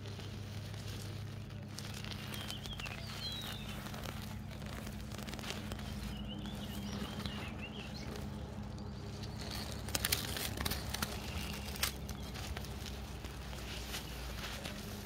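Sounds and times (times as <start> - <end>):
dry leaves crunching: 0.0 - 15.0
steady low hum: 0.0 - 15.0
bird chirping: 1.7 - 14.5.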